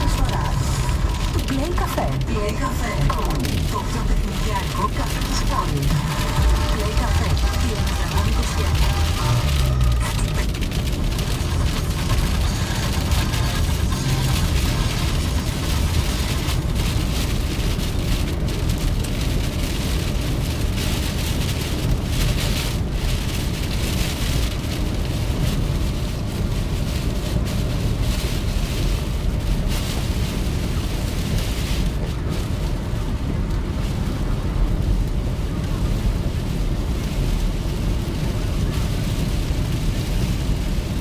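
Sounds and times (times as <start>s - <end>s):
rain on a windscreen: 0.0s - 41.0s
steady low rumble: 0.0s - 41.0s
tyres hissing on wet road: 0.0s - 41.0s.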